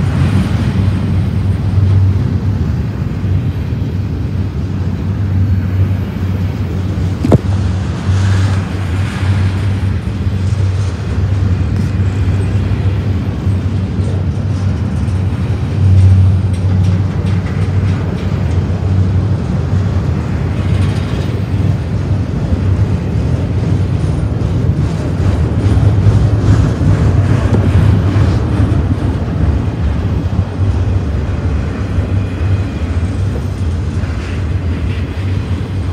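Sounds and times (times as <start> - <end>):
freight train wheels rumbling on rail: 0.0 - 35.9.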